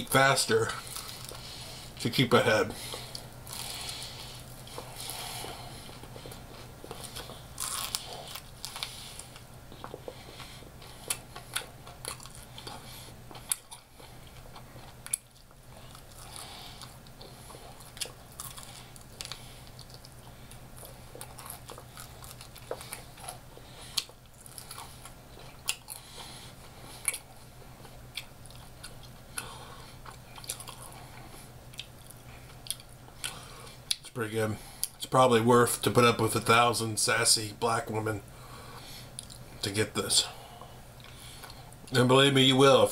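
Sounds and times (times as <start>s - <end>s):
low steady hum: 0.0s - 42.9s
crunchy chewing of fried chicken: 0.1s - 34.0s, 38.4s - 39.6s, 40.5s - 42.3s.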